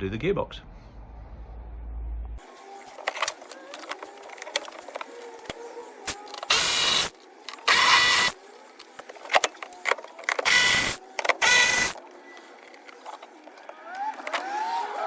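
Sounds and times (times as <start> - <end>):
parts clicking and rattling: 2.4 - 15.0
power tool motor whirring: 2.4 - 15.0.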